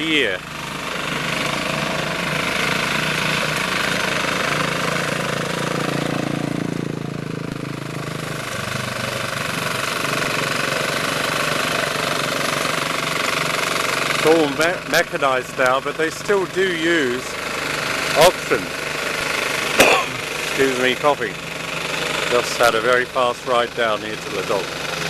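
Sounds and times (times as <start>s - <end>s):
ploughing machine engine pulsing: 0.0s - 25.0s.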